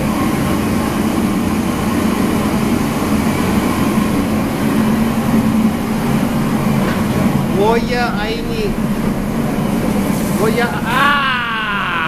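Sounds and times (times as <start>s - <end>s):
kitchen machinery hum: 0.0s - 12.0s.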